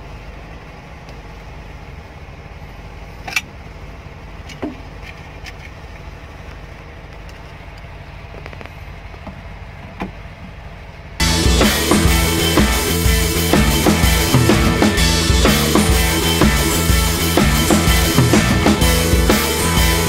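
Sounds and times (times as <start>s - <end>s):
engine idling rumble: 0.0s - 20.0s.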